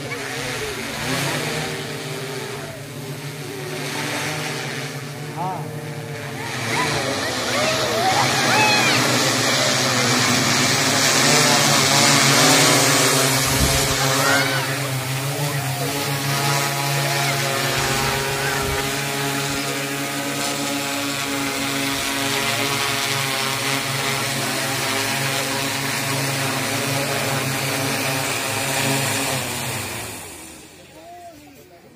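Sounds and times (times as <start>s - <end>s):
drone propellers humming: 0.0s - 31.9s.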